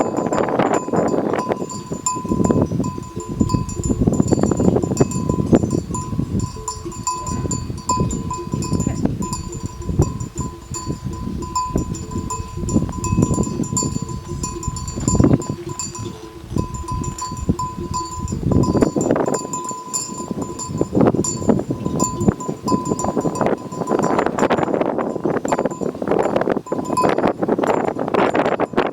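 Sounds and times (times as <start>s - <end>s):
animal bells clanking: 0.0s - 28.9s.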